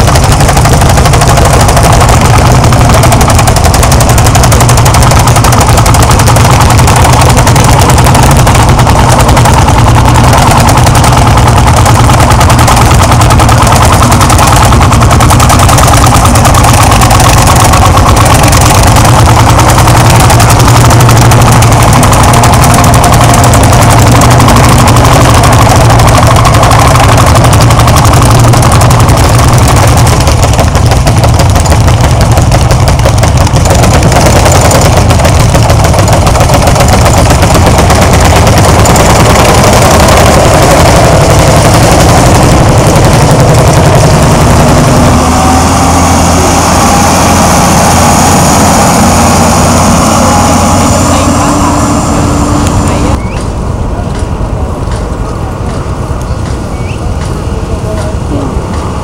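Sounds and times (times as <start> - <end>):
tractor engines popping: 0.0 - 59.0.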